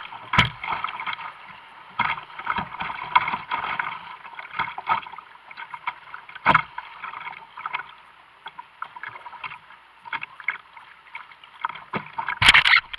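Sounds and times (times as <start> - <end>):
water rushing and splashing: 0.0 - 12.9.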